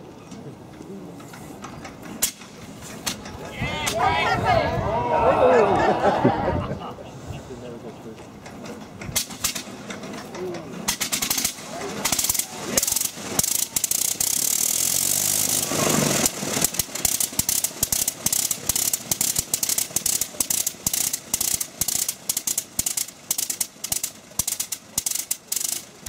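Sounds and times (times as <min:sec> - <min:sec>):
rotary aircraft engine popping: 0:00.0 - 0:04.0, 0:07.8 - 0:26.0.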